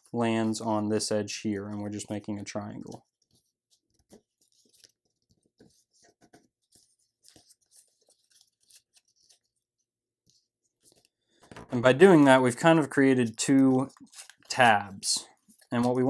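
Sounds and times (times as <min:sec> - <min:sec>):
paper rustling and crinkling: 0:01.6 - 0:16.0.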